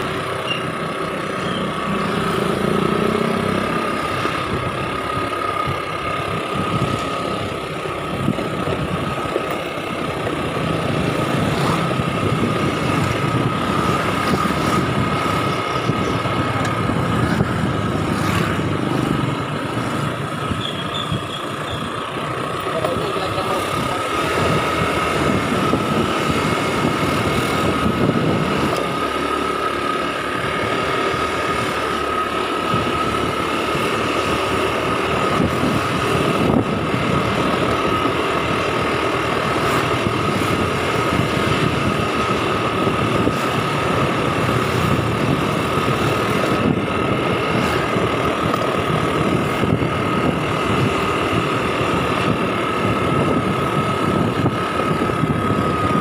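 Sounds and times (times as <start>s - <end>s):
road and wind noise: 0.0s - 56.0s
small motorcycle engine: 0.0s - 56.0s.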